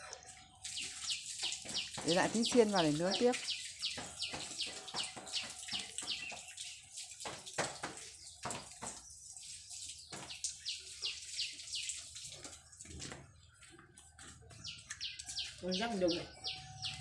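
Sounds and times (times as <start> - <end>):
bird chirping: 0.0 - 7.4, 8.1 - 17.0.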